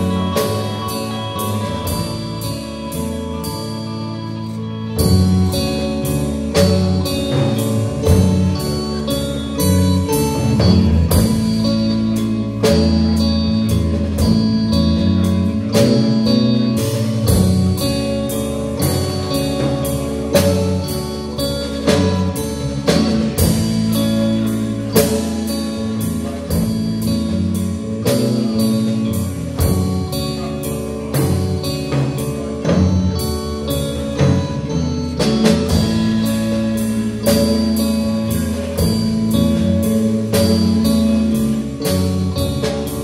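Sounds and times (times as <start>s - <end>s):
drum kit beat: 0.0s - 43.0s
electric bass: 0.0s - 43.0s
electric guitar: 0.0s - 43.0s.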